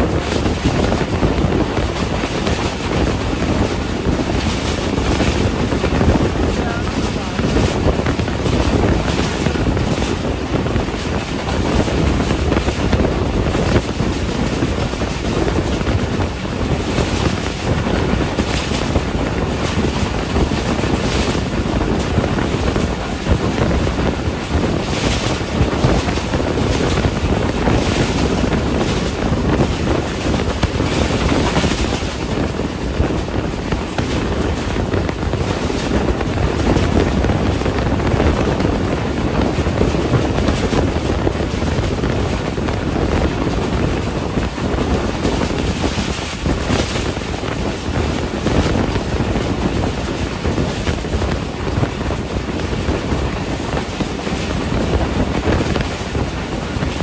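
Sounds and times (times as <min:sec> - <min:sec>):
train wheels rumbling on track: 0:00.0 - 0:57.0
wind rushing on microphone: 0:00.0 - 0:57.0.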